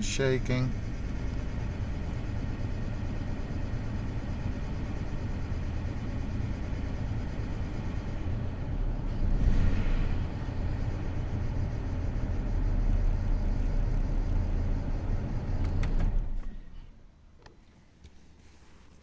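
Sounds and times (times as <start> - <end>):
car engine idling roughly with misfire: 0.0 - 17.0.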